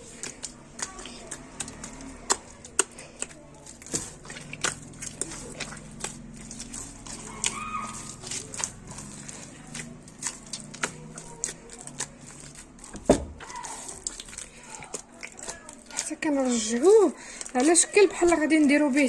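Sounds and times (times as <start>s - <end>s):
hands kneading wet dough: 0.0s - 19.0s.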